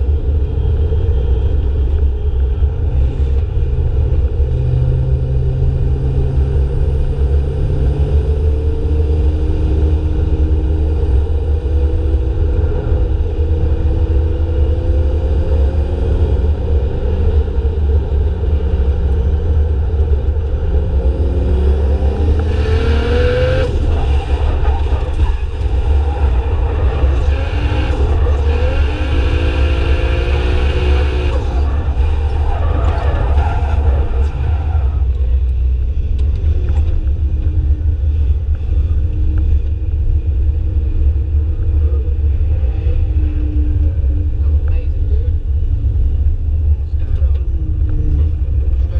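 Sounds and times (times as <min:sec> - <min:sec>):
car engines revving: 0:00.0 - 0:48.9
heavy low rumble: 0:00.0 - 0:48.9.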